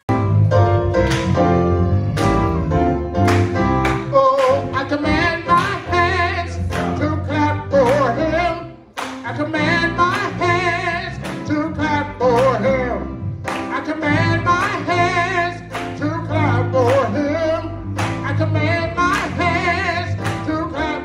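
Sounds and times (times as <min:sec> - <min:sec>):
instrumental accompaniment with bass: 0:00.0 - 0:21.0.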